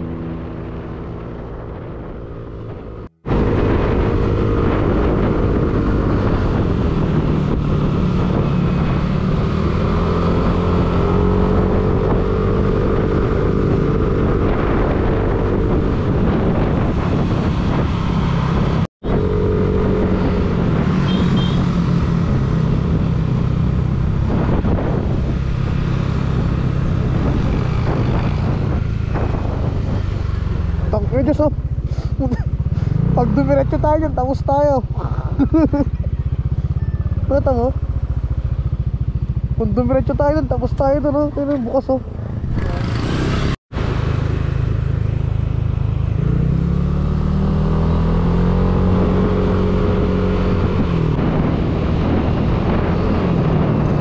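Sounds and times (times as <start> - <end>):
motorcycle engine revving: 0.0 - 54.0
road and wind noise: 0.0 - 54.0.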